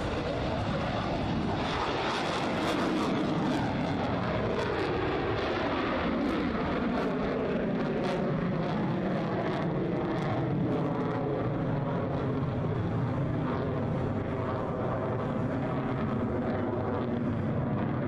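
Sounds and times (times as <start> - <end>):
jet flying overhead: 0.0 - 18.0.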